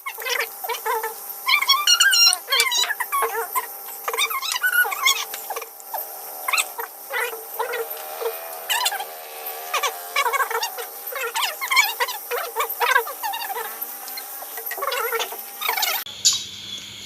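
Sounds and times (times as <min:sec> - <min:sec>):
faint insect hum: 0:00.0 - 0:17.0
frogs chirping: 0:00.0 - 0:17.0.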